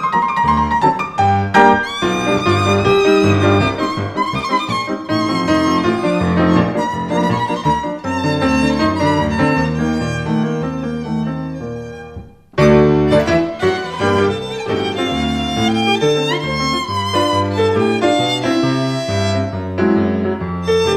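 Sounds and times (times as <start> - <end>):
violin music: 0.0 - 20.9.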